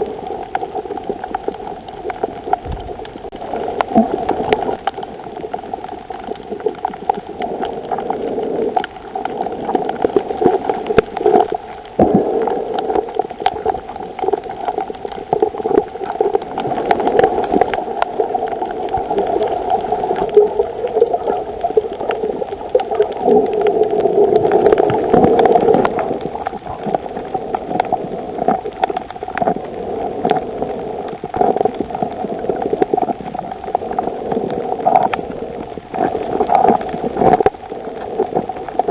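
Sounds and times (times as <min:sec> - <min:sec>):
muffled underwater churning: 0:00.0 - 0:38.9
underwater clicks and crackles: 0:00.0 - 0:38.9.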